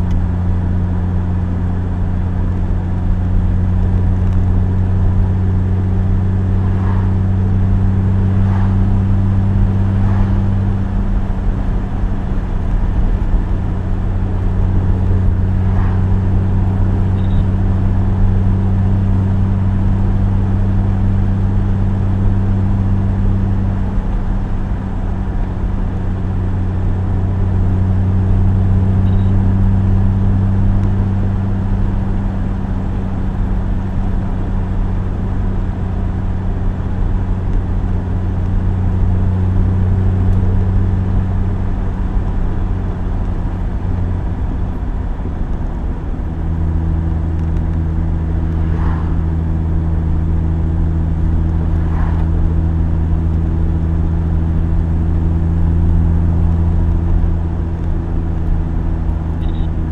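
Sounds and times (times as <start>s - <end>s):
road and wind noise: 0.0s - 59.9s
sports car engine running: 0.0s - 59.9s.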